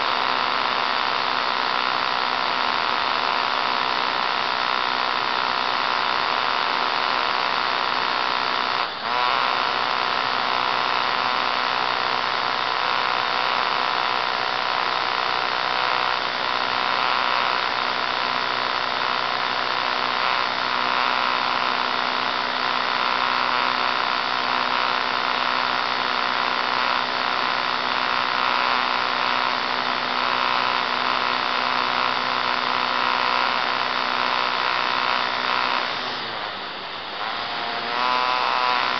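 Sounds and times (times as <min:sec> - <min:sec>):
model plane motor whine: 0:00.0 - 0:38.9.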